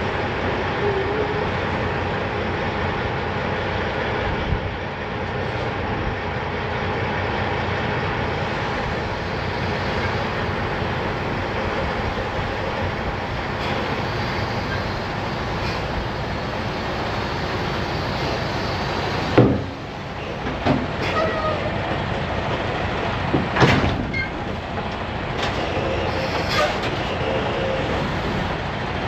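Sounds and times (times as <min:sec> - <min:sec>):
truck rumble and road noise: 0:00.0 - 0:29.0.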